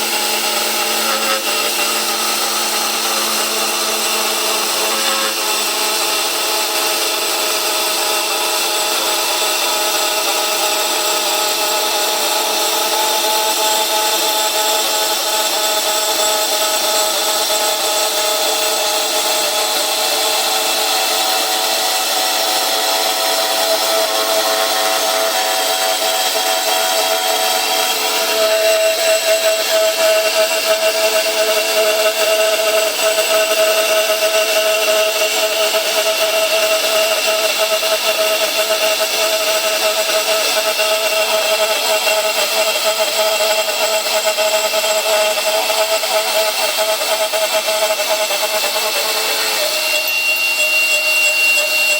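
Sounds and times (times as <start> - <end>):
pipe cutter saw whining: 0.0 - 51.9.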